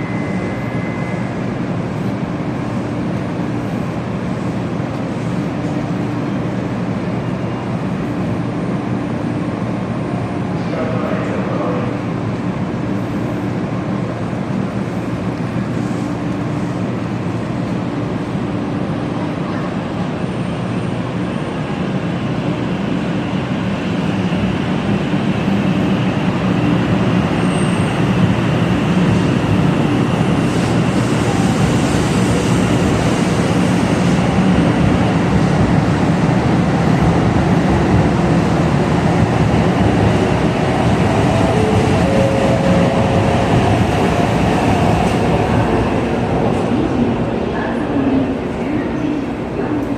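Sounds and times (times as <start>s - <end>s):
bullet train rumbling: 0.0s - 49.9s.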